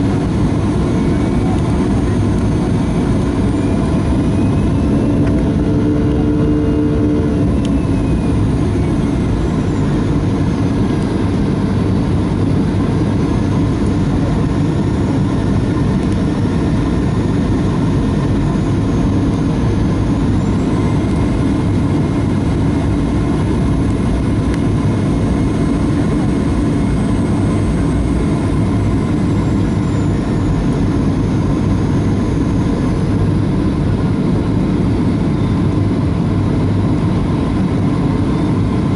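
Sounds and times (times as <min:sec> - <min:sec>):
faint whining engine tones: 0:00.0 - 0:38.9
jet engine rush in cabin: 0:00.0 - 0:38.9.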